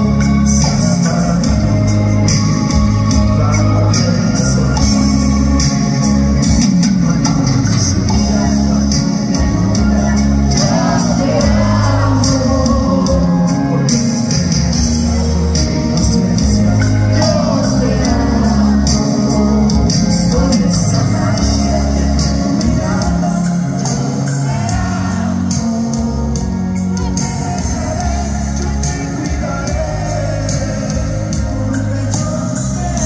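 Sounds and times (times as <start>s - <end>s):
live band playing: 0.0s - 33.0s
person singing: 0.0s - 33.0s.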